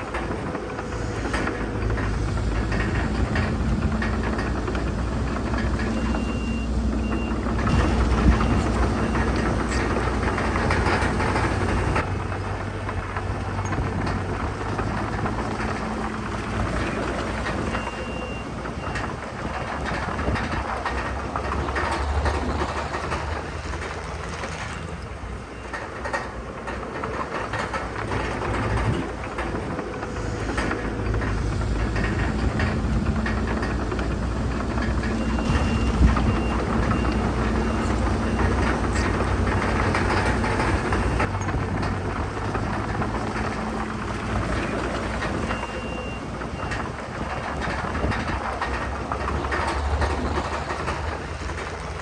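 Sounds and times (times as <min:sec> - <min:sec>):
diesel engine running: 0:00.0 - 0:52.0
steel tracks clanking: 0:00.0 - 0:52.0.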